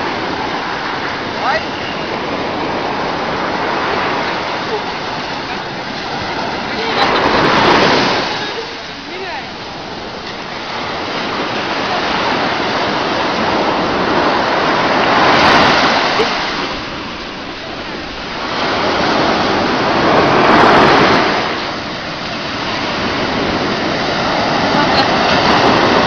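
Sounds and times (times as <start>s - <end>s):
sea surf rushing onto shore: 0.0s - 26.0s.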